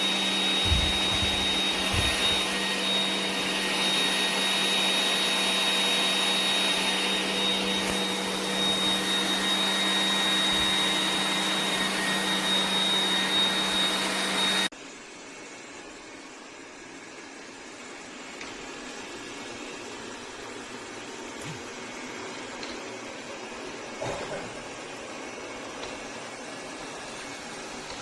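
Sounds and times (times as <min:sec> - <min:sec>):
robot vacuum cleaner running: 0:00.0 - 0:28.0.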